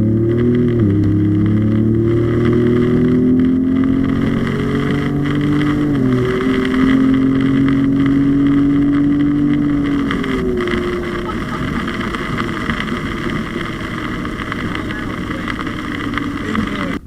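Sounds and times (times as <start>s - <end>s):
car engine and exhaust running: 0.0s - 17.0s.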